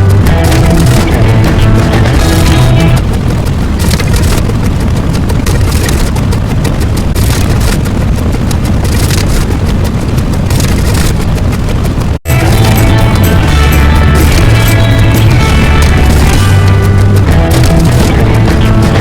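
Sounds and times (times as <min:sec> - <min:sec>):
loud bassy rumbling: 0:00.0 - 0:19.0.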